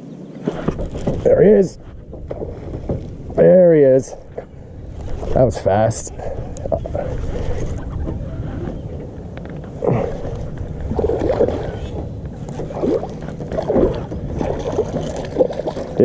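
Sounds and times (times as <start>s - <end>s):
steady low rumble: 1.0s - 16.0s.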